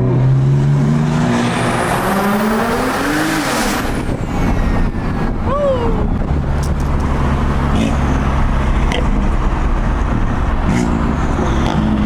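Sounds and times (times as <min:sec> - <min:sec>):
road noise: 0:00.0 - 0:12.0
turbocharged car engine running: 0:00.4 - 0:12.0.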